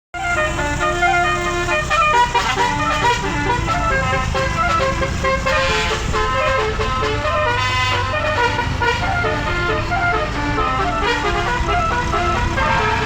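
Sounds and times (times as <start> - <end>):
multi-tone bus horn melody: 0.1 - 13.0
bus engine running: 0.2 - 13.0.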